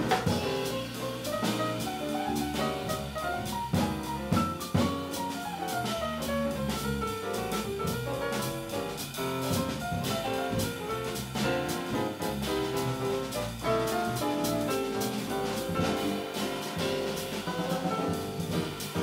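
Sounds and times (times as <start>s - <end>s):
drum kit with cymbals: 0.0s - 19.0s
grand piano: 0.0s - 19.0s.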